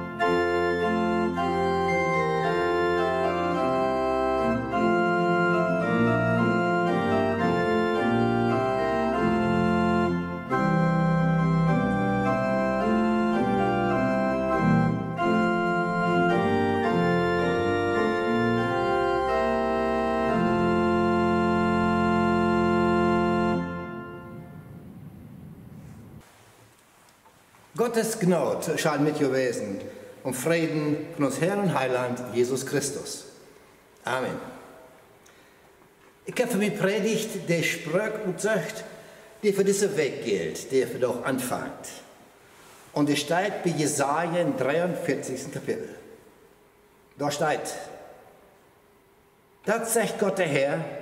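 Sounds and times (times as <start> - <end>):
pipe organ playing chords: 0.0 - 26.2, 28.6 - 51.0.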